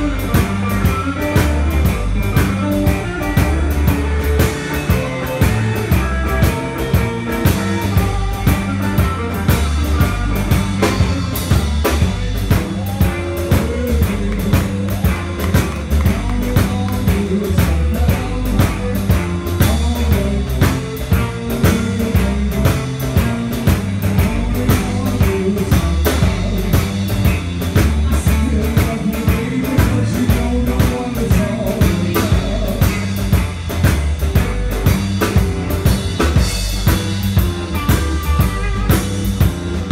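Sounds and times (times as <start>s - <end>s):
drum kit steady beat: 0.0s - 39.9s
electric bass: 0.0s - 39.9s
electric guitars: 0.0s - 39.9s.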